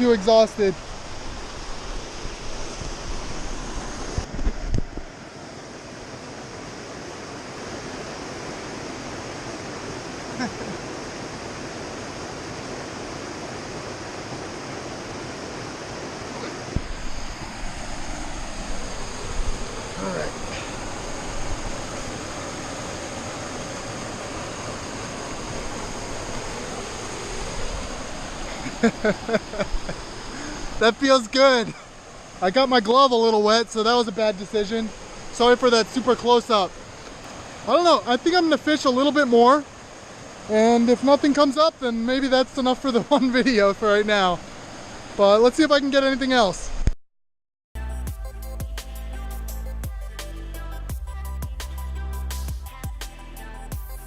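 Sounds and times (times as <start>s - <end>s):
small waterfall rushing: 0.0s - 46.6s.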